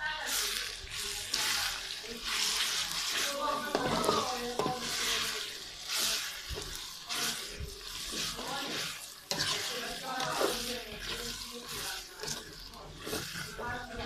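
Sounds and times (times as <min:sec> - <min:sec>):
onions sizzling in oil: 0:00.0 - 0:14.0
spatula scraping metal pan: 0:00.3 - 0:14.0.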